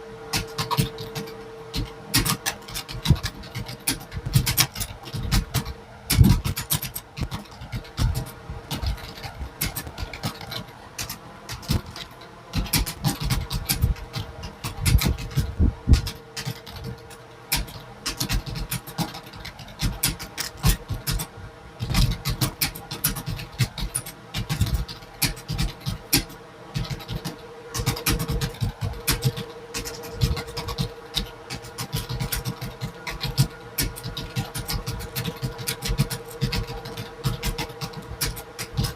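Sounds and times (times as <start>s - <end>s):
steady hum: 0.0s - 38.9s
fast keyboard typing: 0.3s - 38.9s.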